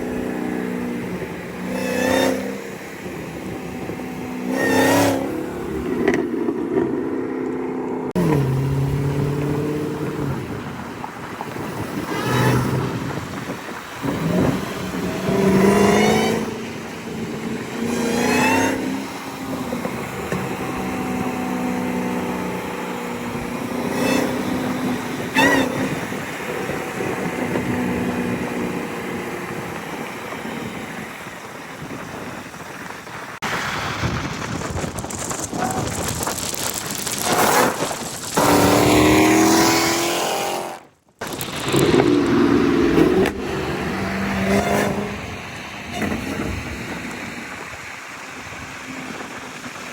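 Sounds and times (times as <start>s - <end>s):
car engine revving: 0.0s - 31.5s, 38.4s - 47.6s.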